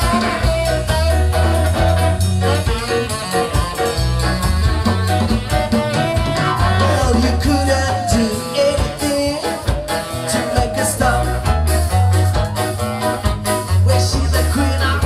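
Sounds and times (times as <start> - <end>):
ska band playing live: 0.0 - 15.0.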